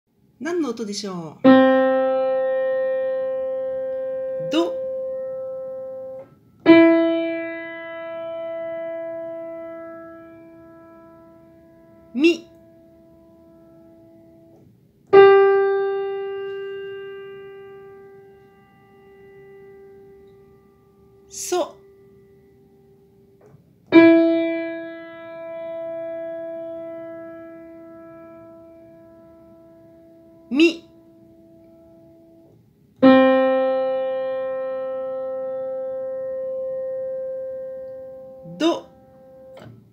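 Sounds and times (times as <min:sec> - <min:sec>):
piano note ringing: 0:01.4 - 0:39.9.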